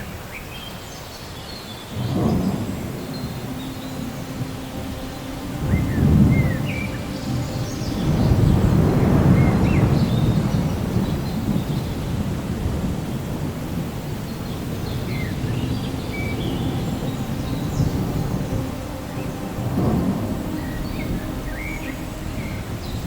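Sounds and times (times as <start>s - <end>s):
steady rain: 0.0s - 23.0s
thunder rolling: 1.9s - 23.0s.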